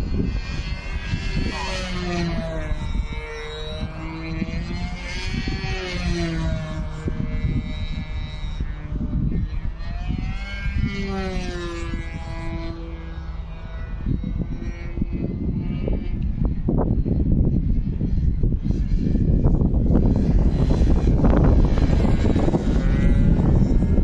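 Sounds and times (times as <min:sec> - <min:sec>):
model airplane engine buzzing: 0:00.0 - 0:24.0
wind buffeting microphone: 0:00.0 - 0:24.0.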